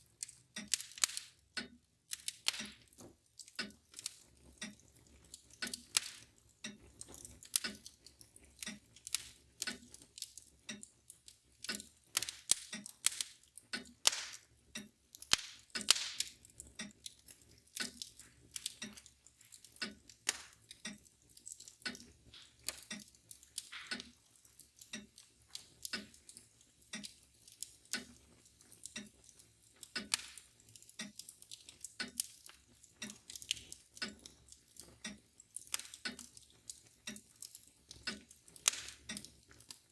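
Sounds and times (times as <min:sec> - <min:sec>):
mantel clock ticking: 0:00.0 - 0:39.9
wood fire crackling and popping: 0:00.0 - 0:39.9.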